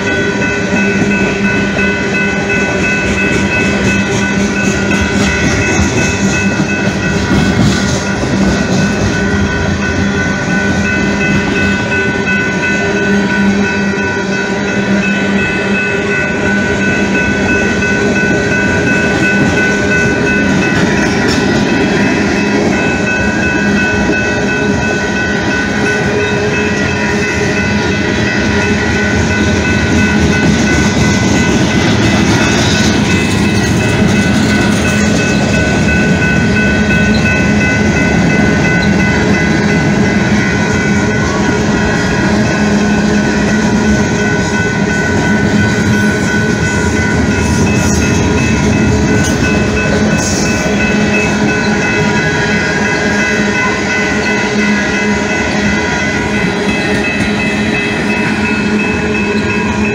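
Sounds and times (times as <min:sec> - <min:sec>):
freight train rolling past: 0:00.0 - 0:59.9
high-pitched ringing tones: 0:00.0 - 0:59.9.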